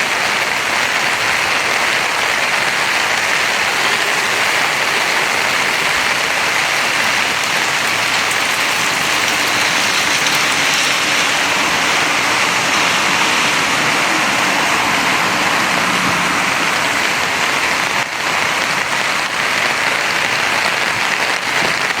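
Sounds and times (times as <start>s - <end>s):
rain on hard surfaces: 0.0s - 22.0s.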